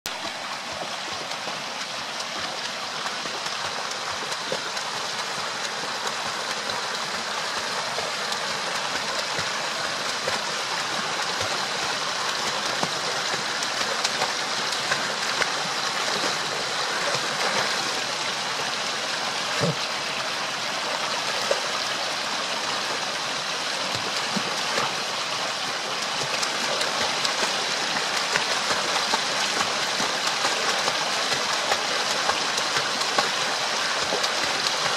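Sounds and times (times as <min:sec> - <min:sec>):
creek rushing over stones: 0:00.1 - 0:34.9.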